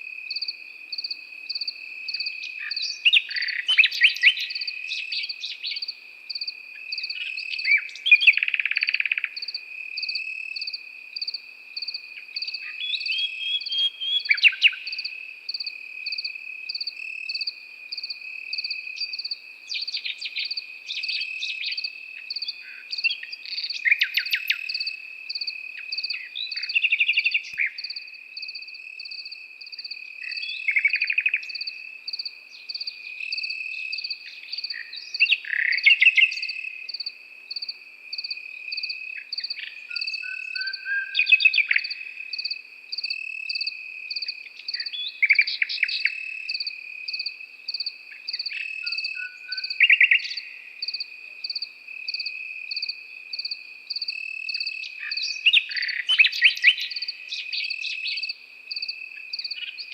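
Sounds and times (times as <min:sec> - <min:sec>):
nightingale singing: 0:00.0 - 0:59.9
pulsing cricket chirp: 0:00.0 - 0:59.9
steady insect trill: 0:00.0 - 0:59.9.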